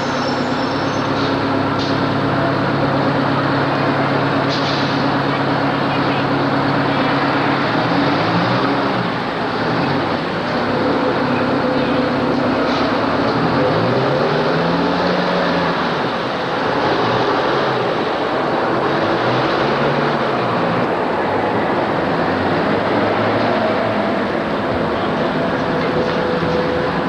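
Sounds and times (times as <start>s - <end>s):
city bus engine: 0.0s - 27.0s
passing car engines: 0.0s - 27.0s
traffic rumble: 0.0s - 27.0s.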